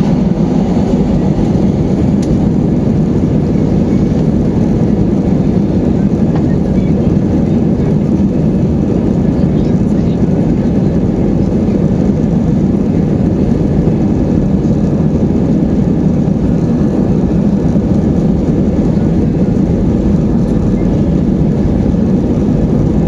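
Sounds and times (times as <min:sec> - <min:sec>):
jet engines low rumble: 0:00.0 - 0:23.0.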